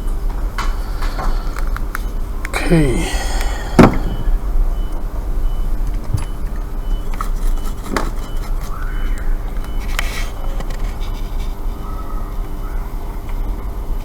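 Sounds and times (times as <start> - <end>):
electrical hum of equipment: 0.0 - 14.0.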